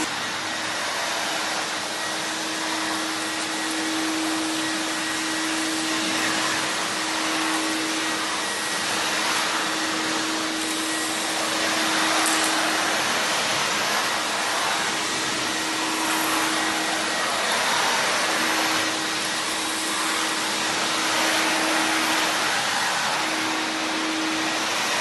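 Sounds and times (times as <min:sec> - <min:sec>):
industrial vacuum running: 0:00.0 - 0:25.0.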